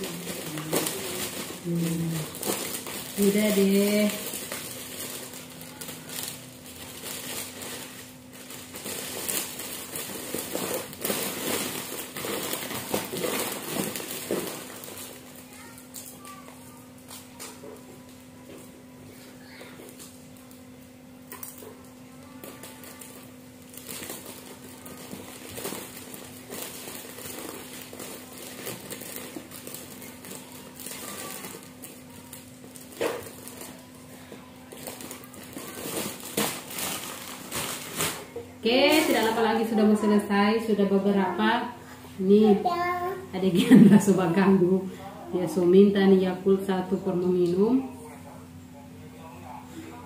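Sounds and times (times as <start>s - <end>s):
plastic bag crinkling: 0.0s - 41.1s.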